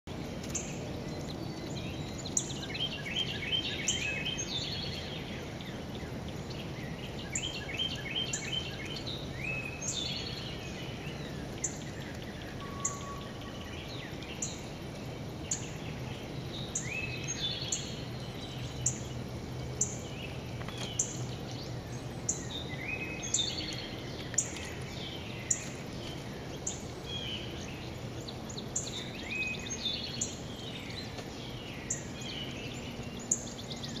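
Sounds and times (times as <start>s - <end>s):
songbirds singing and chirping: 0.0s - 34.0s
low background hum: 0.1s - 34.0s.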